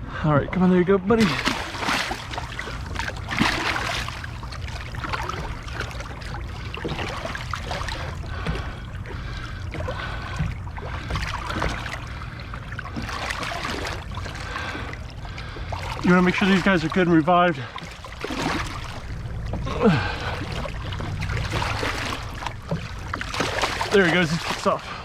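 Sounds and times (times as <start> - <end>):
water sloshing against boat: 0.9 - 25.0
low rumble: 1.1 - 25.0.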